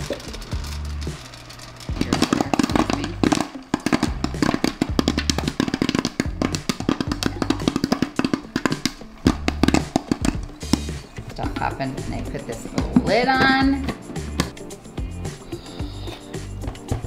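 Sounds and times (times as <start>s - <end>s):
background music with bass line: 0.0s - 3.4s, 4.0s - 17.0s
popcorn popping: 0.0s - 17.0s.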